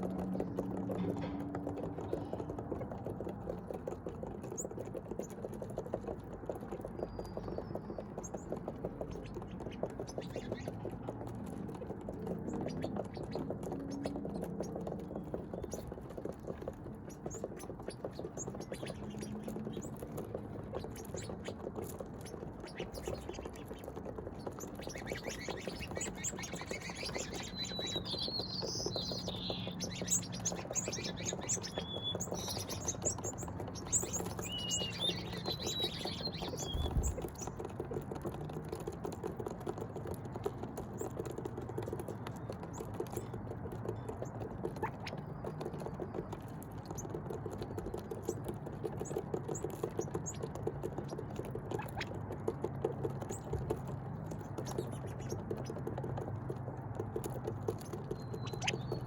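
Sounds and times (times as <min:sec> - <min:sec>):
fine ticking patter: 0:00.0 - 0:59.0
small birds chirping: 0:00.0 - 0:59.0.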